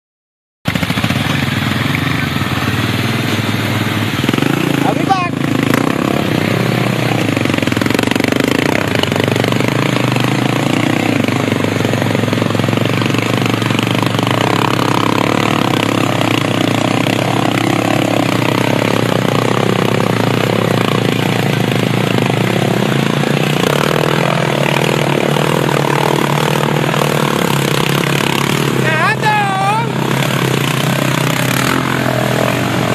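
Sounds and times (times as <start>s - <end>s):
atv engine pulsing: 0.7s - 32.9s.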